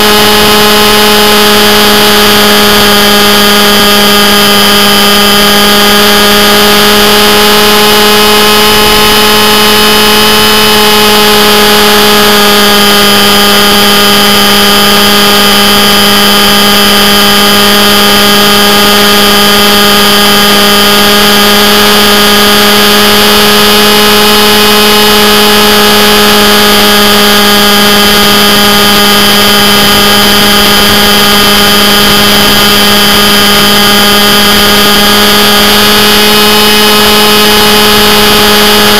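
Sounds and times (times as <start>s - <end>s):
model helicopter motor and rotors: 0.0s - 38.9s.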